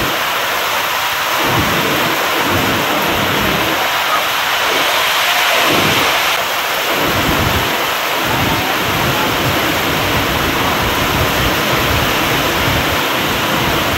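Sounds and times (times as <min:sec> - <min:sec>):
heavy rain on metal roof: 0:00.0 - 0:13.9
low rumbling: 0:01.3 - 0:13.9.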